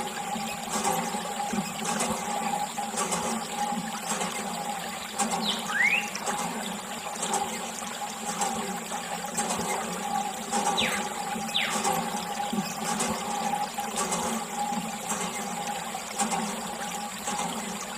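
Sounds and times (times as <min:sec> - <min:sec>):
water jet splashing: 0:00.0 - 0:17.9.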